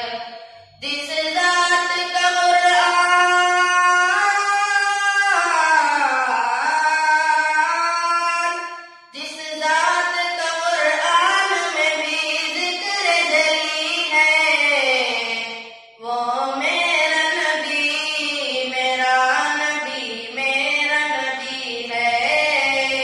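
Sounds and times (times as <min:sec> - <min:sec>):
boy singing unaccompanied: 0:00.8 - 0:08.6, 0:09.2 - 0:23.0.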